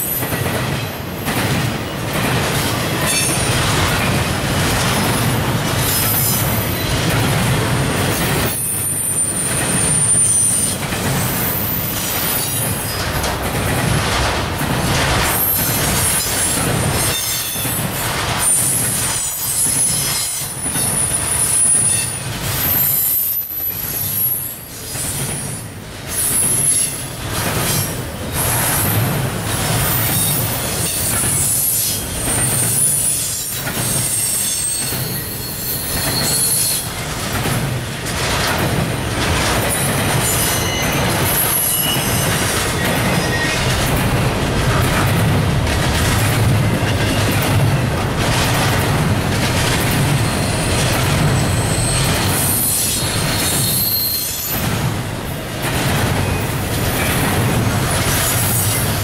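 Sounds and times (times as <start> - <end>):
wheels clacking over rail joints: 0.0 - 24.0, 24.8 - 59.0
freight train rumbling past: 0.0 - 59.0.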